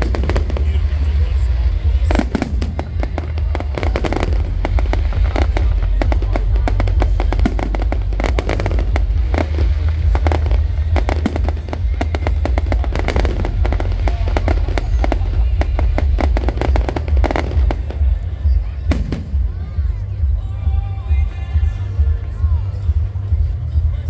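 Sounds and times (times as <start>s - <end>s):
deep rumble: 0.0s - 24.0s
fireworks bangs and crackles: 0.0s - 24.0s.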